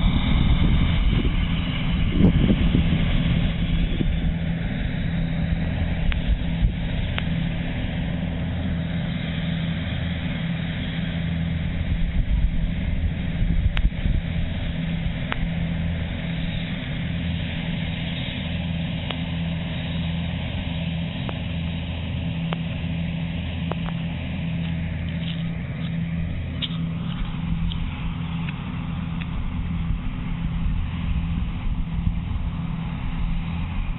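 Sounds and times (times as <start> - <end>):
combine harvester engine running: 0.0 - 33.9.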